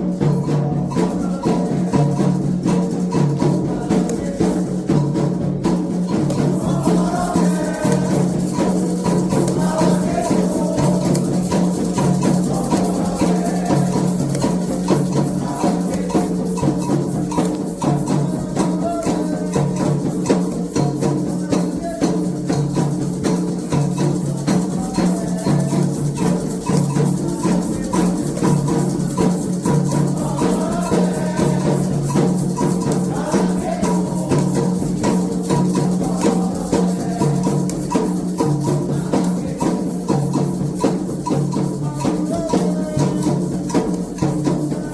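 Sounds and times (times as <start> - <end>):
drums playing fast rhythm: 0.0 - 44.9
rattles shaking: 0.0 - 44.9.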